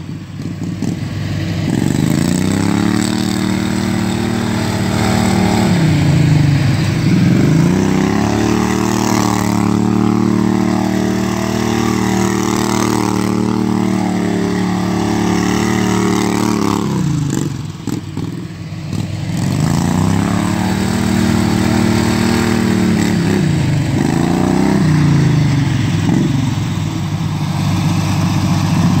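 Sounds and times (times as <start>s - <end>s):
lawn mower engine revving: 0.0s - 29.0s.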